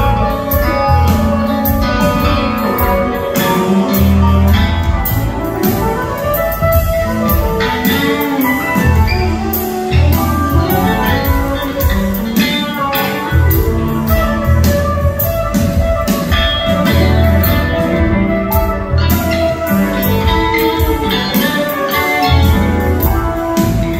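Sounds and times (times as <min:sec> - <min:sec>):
live band playing: 0:00.0 - 0:23.9
steady drum beat: 0:00.0 - 0:23.9.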